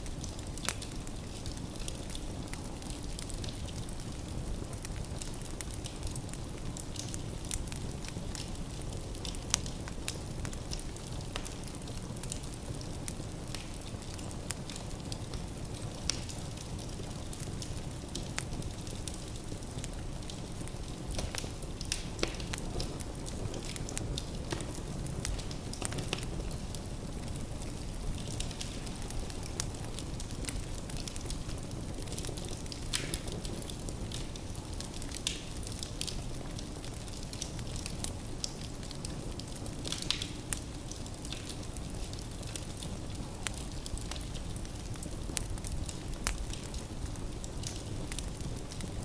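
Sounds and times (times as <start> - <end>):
fire rumbling: 0.0 - 49.0
wood crackling and popping: 0.0 - 49.0.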